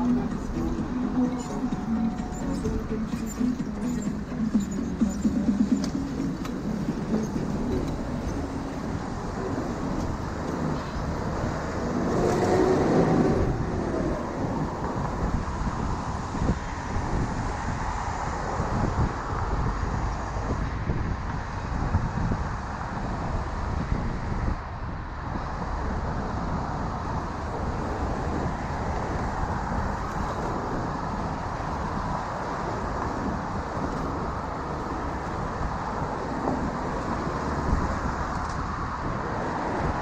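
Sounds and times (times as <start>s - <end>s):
road traffic noise: 0.0s - 40.0s
wind rushing over microphone: 0.0s - 40.0s.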